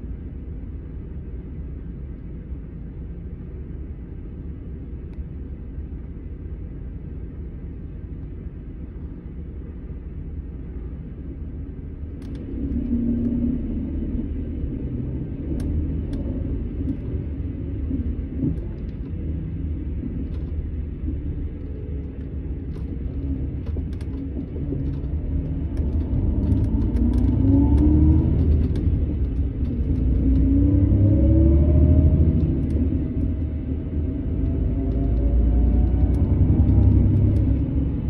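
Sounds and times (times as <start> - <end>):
bus diesel engine rumbling: 0.0 - 38.0.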